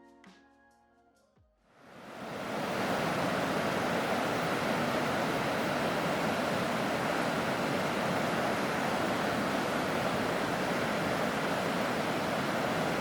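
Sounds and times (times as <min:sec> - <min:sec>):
river rushing: 0:01.9 - 0:13.0.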